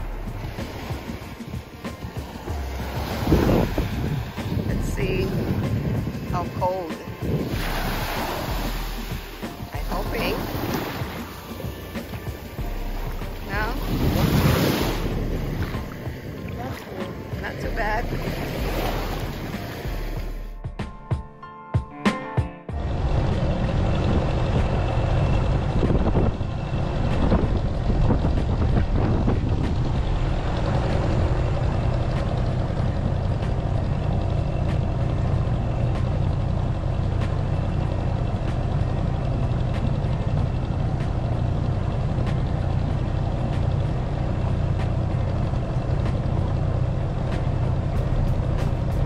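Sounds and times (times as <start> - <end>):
outboard motor running: 0.0 - 20.6, 22.7 - 49.0
water rushing along hull: 0.0 - 20.6, 22.8 - 49.0.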